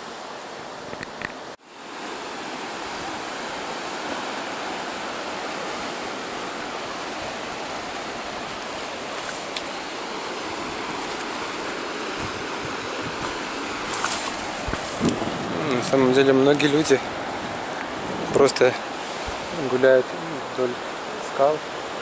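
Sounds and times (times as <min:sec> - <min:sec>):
ocean surf on rocks: 0:00.0 - 0:22.0.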